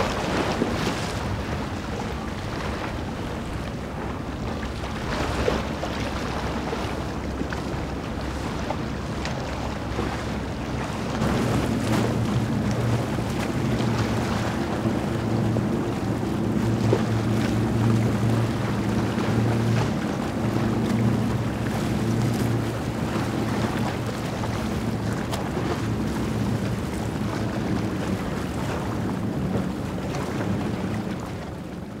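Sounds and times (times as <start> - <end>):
boat hull wash and wake: 0.0 - 32.0.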